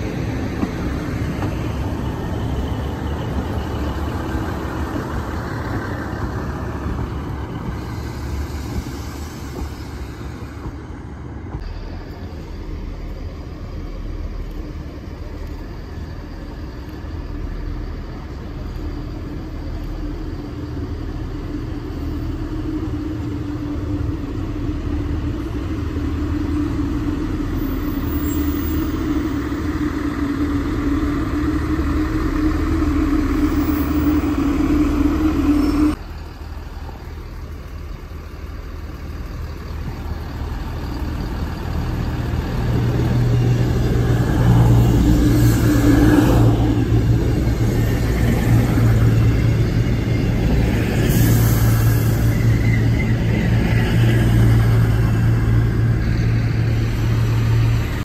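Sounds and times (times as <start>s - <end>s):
diesel train engine tone: 0.0s - 58.0s
train engines low hum: 0.0s - 58.0s.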